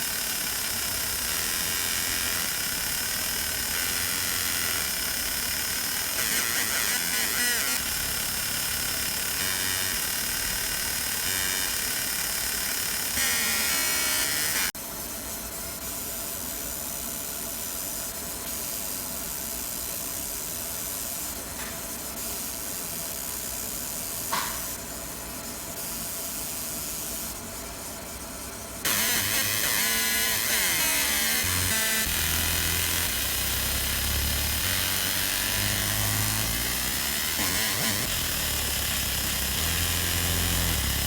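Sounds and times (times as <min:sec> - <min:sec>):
laser engraver hissing buzz: 0:00.0 - 0:41.0.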